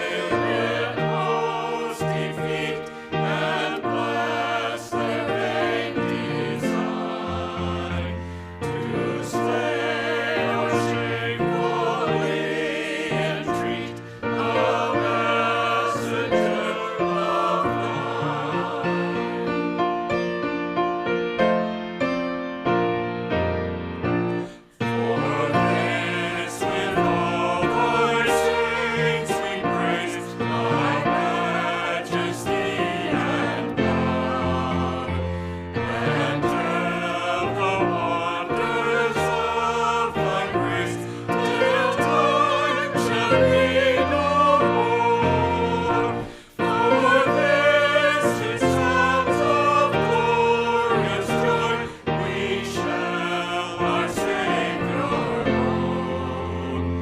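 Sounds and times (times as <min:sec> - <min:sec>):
group singing a hymn: 0:00.0 - 0:20.3, 0:24.3 - 0:57.0
keyboard accompaniment: 0:00.0 - 0:57.0.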